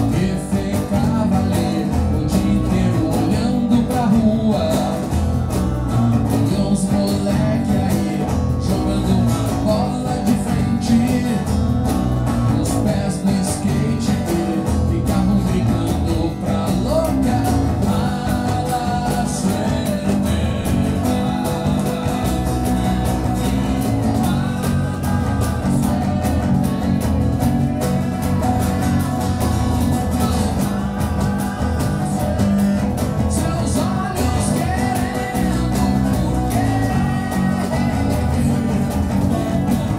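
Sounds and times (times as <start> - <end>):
man singing: 0.0 - 39.9
strummed acoustic guitar: 0.0 - 39.9.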